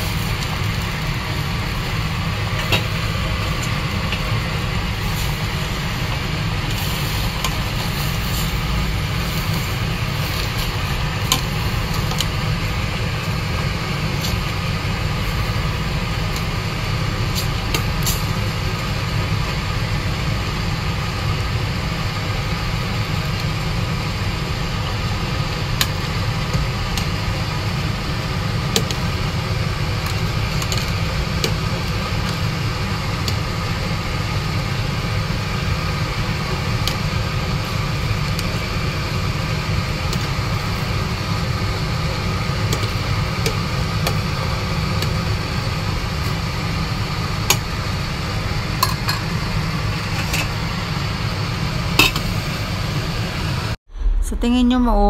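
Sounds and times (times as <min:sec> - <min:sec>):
low rumbling hum: 0:00.0 - 0:55.0.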